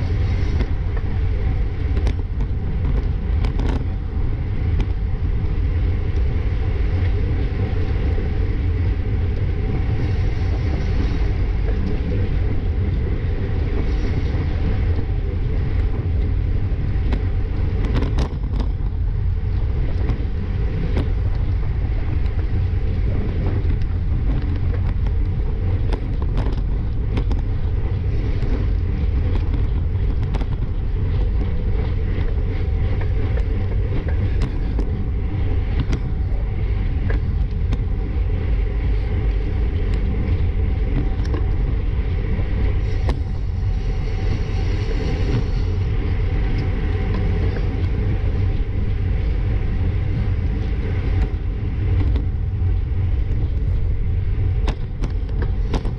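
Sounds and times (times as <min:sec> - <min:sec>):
bicycle tyre hum: 0:00.0 - 0:55.9
wind buffeting microphone: 0:00.0 - 0:55.9.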